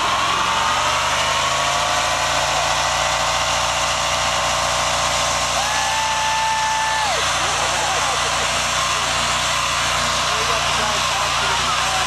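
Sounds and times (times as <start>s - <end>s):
engine at high revs with tyres spinning: 0.0s - 12.0s.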